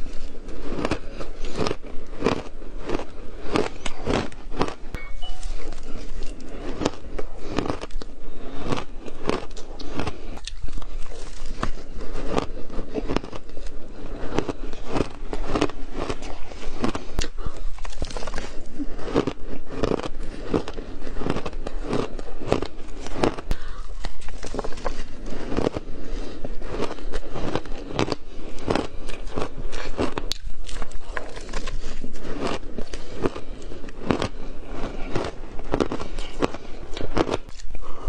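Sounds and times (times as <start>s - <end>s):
chewing crunchy shaved ice: 0.0s - 38.0s.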